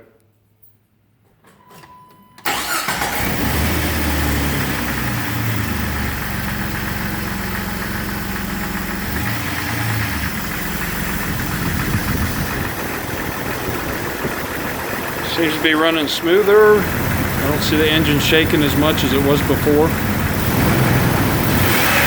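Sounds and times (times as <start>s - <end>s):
car engine starting and idling: 2.4s - 22.0s.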